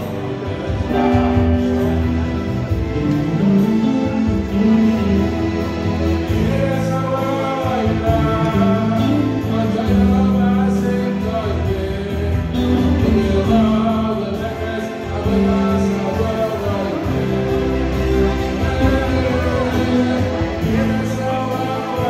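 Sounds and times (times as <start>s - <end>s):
electronic keyboard accompaniment: 0.0s - 22.0s
young man singing into microphone: 4.3s - 22.0s.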